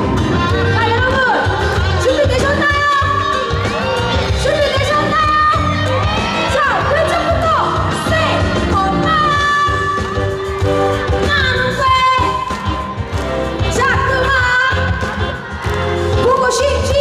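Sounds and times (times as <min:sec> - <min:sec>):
pop backing track with bass beat: 0:00.0 - 0:17.0.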